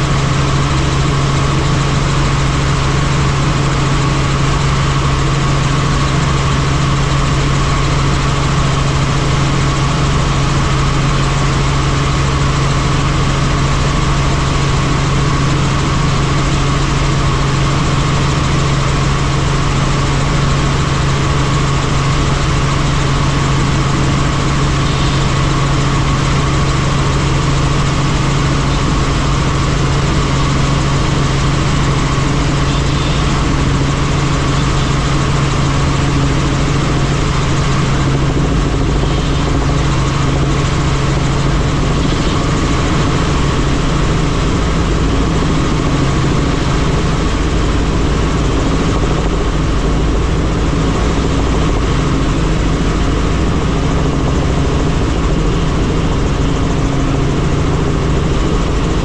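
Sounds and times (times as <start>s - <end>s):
helicopter droning: 0.0s - 59.0s.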